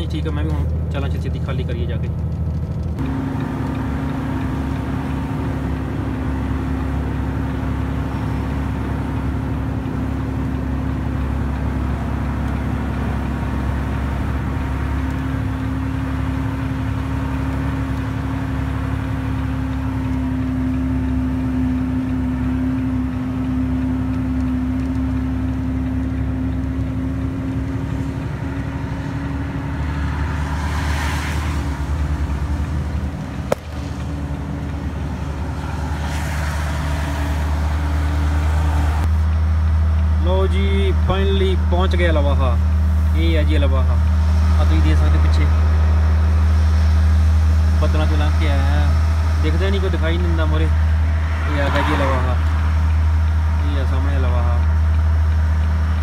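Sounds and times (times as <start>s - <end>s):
road noise: 0.0s - 56.0s
truck diesel engine droning: 0.0s - 56.0s.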